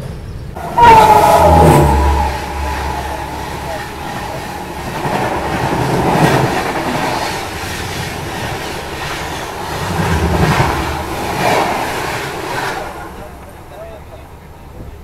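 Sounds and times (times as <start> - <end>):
trains rumbling past: 0.0 - 15.0.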